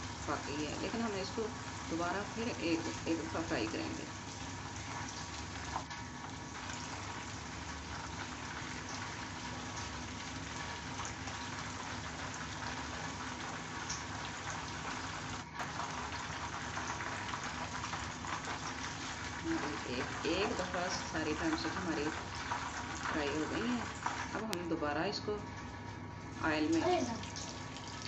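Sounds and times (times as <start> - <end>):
hot oil sizzling and bubbling: 0.0 - 28.0.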